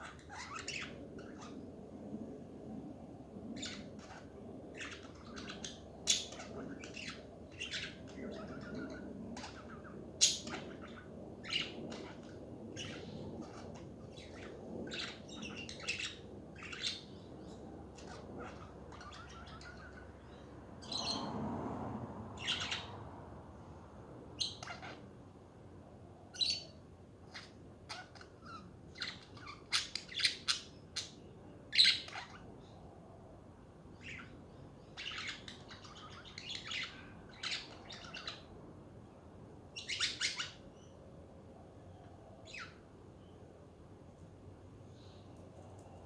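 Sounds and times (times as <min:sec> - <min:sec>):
low background noise: 0:00.0 - 0:46.0.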